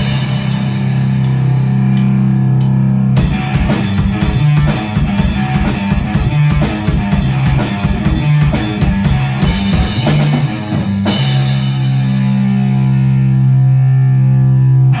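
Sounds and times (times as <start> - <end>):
rock song on drums and guitar: 0.0 - 2.4, 3.0 - 13.5.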